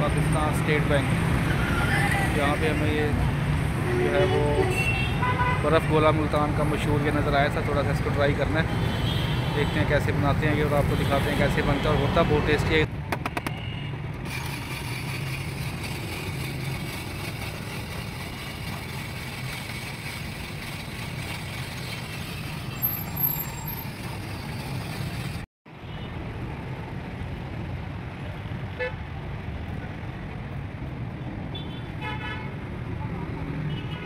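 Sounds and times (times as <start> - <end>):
street traffic noise: 0.0 - 34.0.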